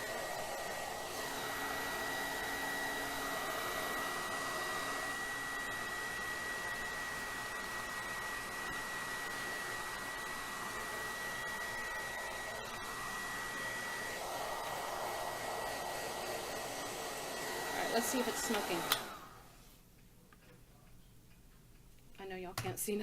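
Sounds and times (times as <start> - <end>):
hair dryer rushing air: 0.0 - 19.6.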